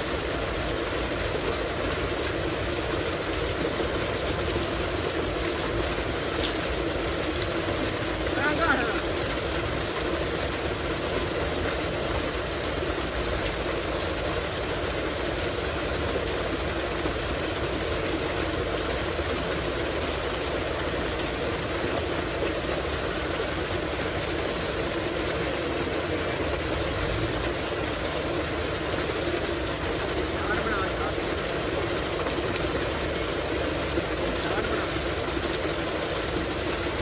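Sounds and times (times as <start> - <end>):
water gushing into a tank: 0.0 - 37.0.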